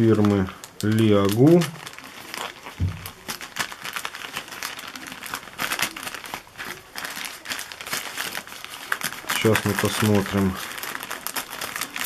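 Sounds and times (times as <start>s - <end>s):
plastic mailer crinkling: 0.0s - 12.0s
scissors cutting plastic: 0.1s - 12.0s.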